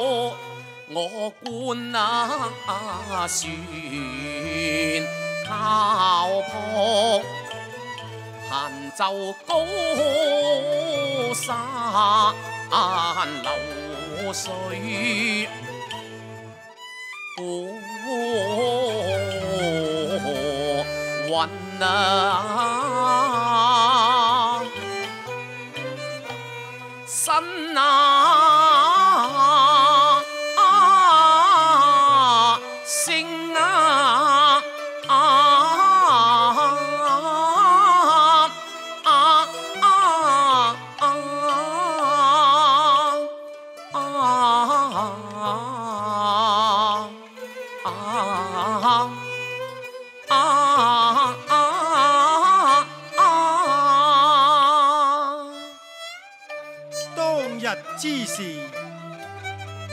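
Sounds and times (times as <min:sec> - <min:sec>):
lead melody with wide vibrato: 0:00.0 - 0:59.9.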